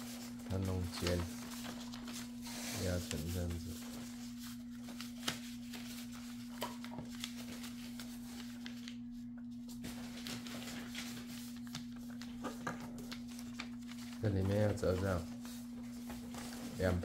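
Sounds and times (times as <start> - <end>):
paper rustling and creasing: 0.0 - 17.0
steady low hum: 0.0 - 17.0.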